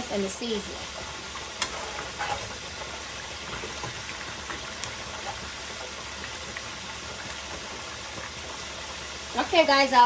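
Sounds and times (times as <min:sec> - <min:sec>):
food sizzling in hot oil: 0:00.0 - 0:10.0
oil crackling and popping: 0:00.5 - 0:09.8.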